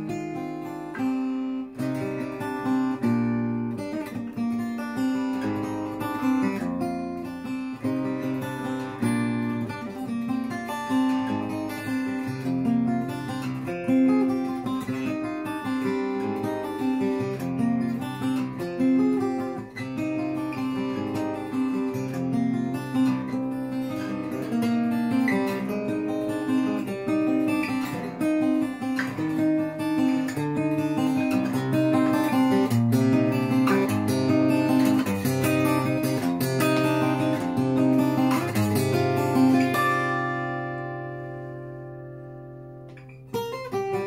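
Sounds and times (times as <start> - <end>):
solo acoustic guitar: 0.0 - 44.0.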